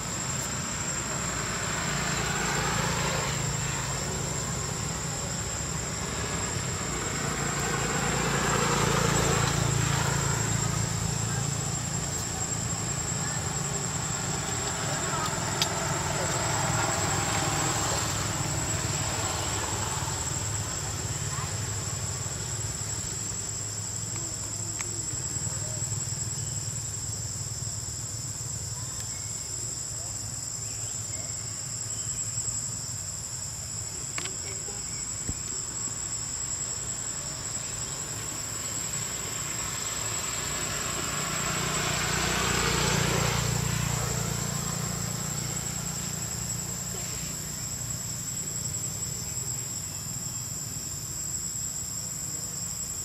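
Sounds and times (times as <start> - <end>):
passing motor vehicle: 0.0 - 28.8, 29.8 - 53.0
insects droning: 0.0 - 53.0
low traffic rumble: 0.0 - 53.0.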